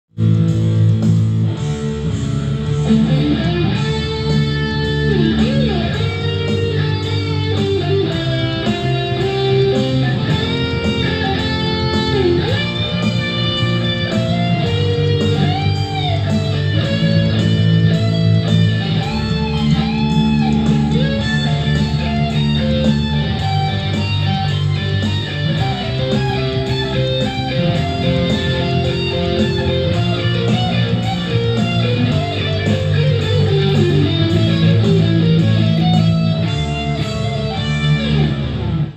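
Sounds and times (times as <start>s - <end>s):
electric guitar lead line: 0.2s - 38.9s.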